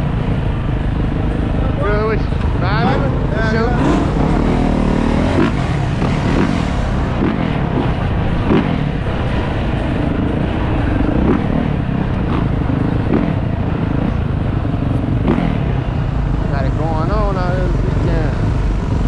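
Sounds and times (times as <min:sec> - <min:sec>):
motorcycle engine rumble: 0:00.0 - 0:19.0.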